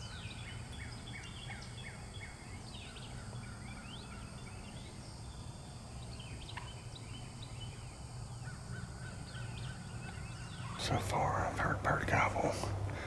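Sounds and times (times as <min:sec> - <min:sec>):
low background rumble: 0:00.0 - 0:13.0
songbirds chirping and whistling: 0:00.0 - 0:13.0.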